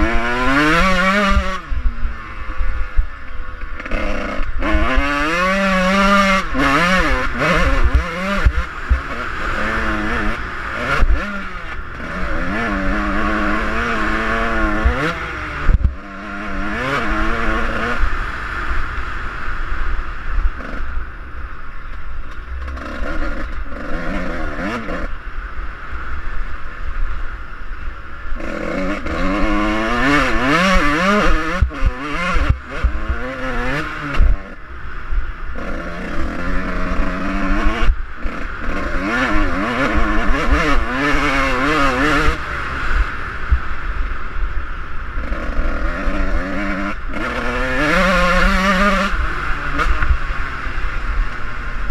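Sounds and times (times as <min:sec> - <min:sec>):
dirt bike engine revving: 0:00.0 - 0:21.2, 0:22.6 - 0:25.2, 0:28.2 - 0:51.9.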